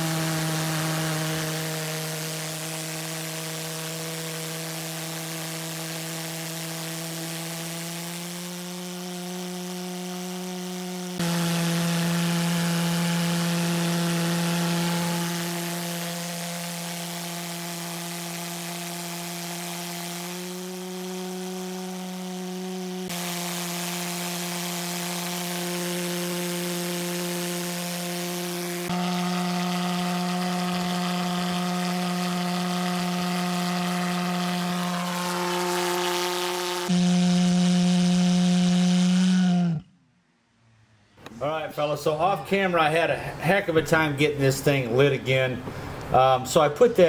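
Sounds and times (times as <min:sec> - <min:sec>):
pulse jet burner buzzing drone: 0:00.0 - 0:40.0.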